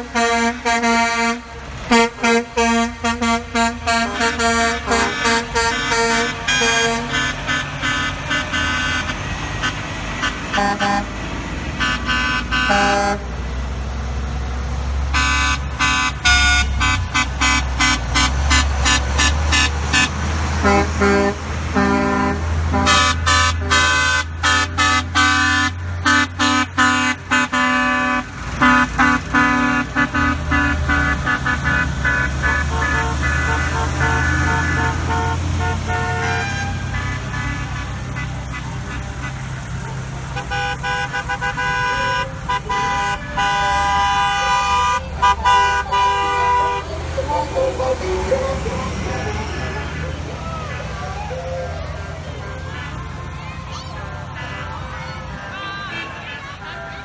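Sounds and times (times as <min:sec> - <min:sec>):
truck engines rumbling: 0:00.0 - 0:57.0
truck horns honking: 0:00.0 - 0:57.0.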